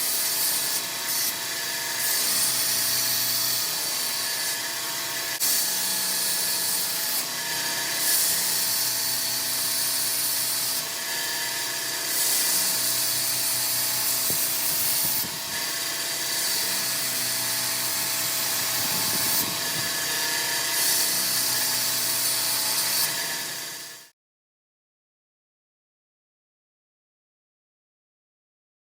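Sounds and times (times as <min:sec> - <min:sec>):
knife blade hissing on grinder: 0:00.0 - 0:24.1
power tool humming: 0:00.0 - 0:24.1.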